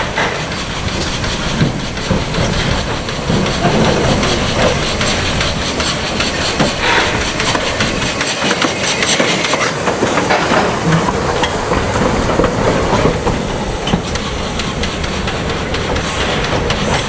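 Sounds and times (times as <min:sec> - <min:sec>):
steam hissing: 0:00.0 - 0:17.0
train wheels clicking and knocking: 0:00.0 - 0:17.0.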